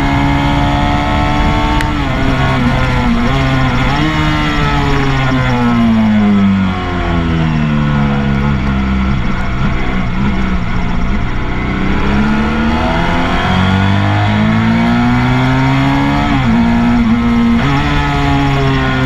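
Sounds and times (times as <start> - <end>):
motorcycle engine accelerating hard: 0.0 - 19.0
wind and road noise: 0.0 - 19.0.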